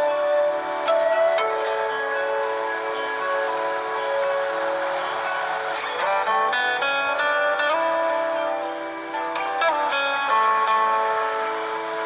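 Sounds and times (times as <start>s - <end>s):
phone ringtone melody: 0.0s - 12.0s.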